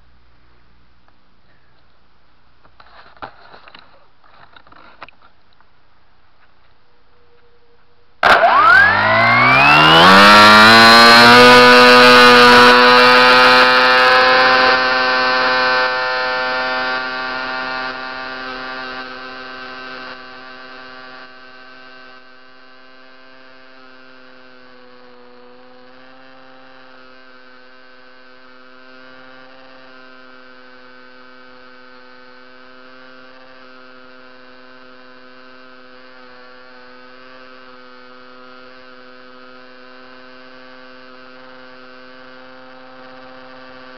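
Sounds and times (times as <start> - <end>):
electric motor and propeller whine: 6.7 - 43.9.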